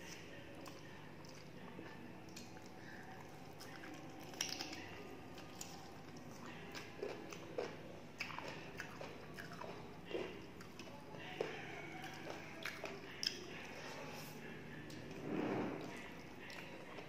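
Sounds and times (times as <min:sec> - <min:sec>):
chewing and biting food: 0:00.0 - 0:15.2.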